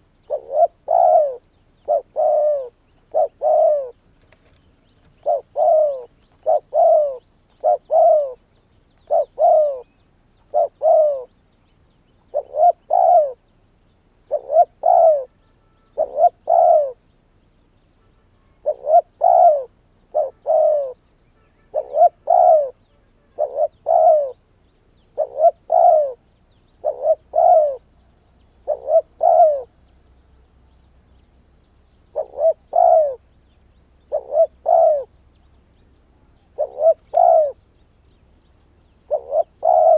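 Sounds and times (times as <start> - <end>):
dove cooing: 0.0 - 11.5, 12.1 - 13.5, 14.2 - 17.1, 18.6 - 21.1, 21.7 - 30.0, 32.0 - 33.3, 34.0 - 35.4, 36.2 - 38.2, 38.8 - 39.9.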